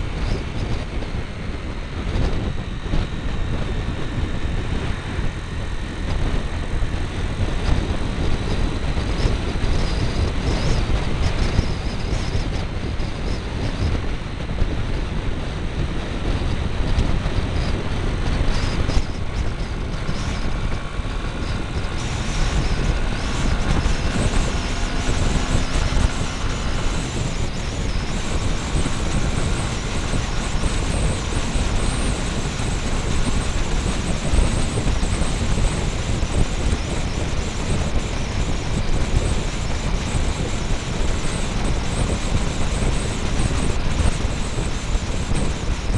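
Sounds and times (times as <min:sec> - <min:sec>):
faint whine: 0:00.0 - 0:45.9
motorbike engine: 0:00.0 - 0:45.9
wind rushing: 0:00.0 - 0:45.9.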